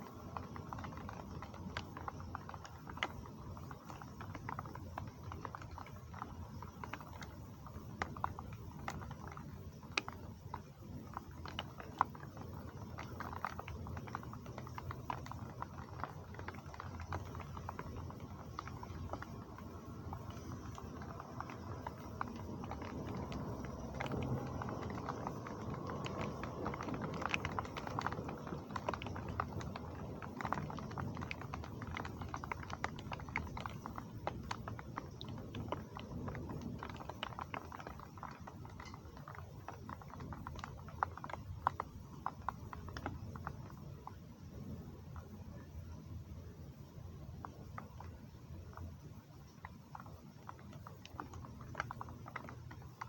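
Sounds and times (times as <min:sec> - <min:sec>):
heavy rain falling: 0:00.0 - 0:53.0
patter of raindrops close by: 0:00.0 - 0:53.0.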